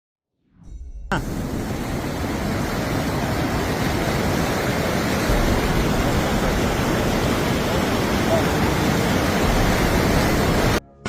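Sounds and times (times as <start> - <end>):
floodwater rushing: 1.2 - 10.8.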